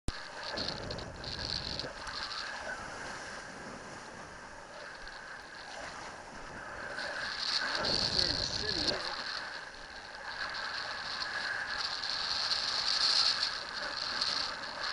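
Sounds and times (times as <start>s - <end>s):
wind and water rushing: 0.2s - 14.9s.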